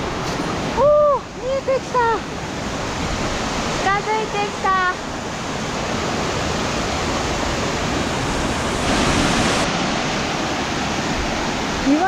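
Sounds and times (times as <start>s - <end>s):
rushing mountain stream: 0.0s - 12.0s.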